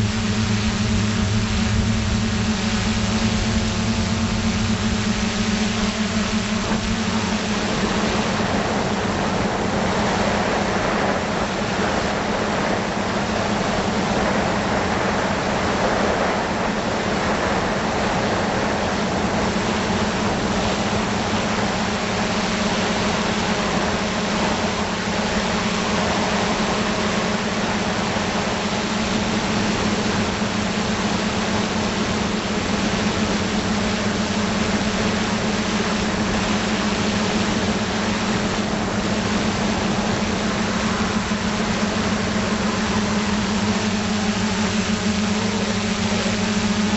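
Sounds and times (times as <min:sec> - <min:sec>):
drone motors humming: 0:00.0 - 0:46.9
wind noise on microphone: 0:00.0 - 0:46.9.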